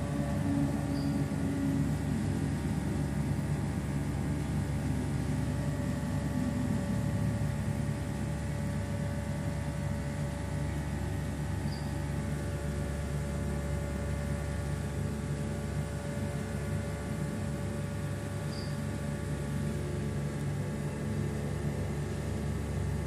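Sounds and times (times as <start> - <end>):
electric pump motor humming: 0.0 - 23.0.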